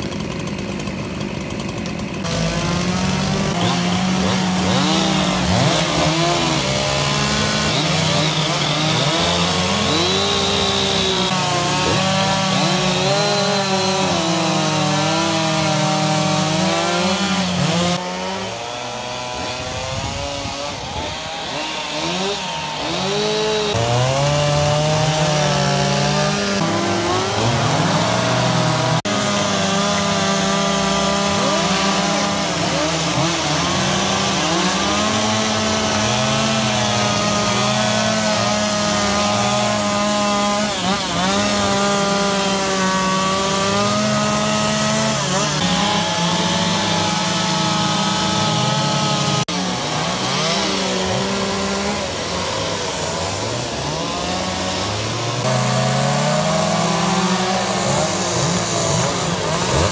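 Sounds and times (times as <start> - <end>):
chainsaws cutting into log: 0.0 - 59.9.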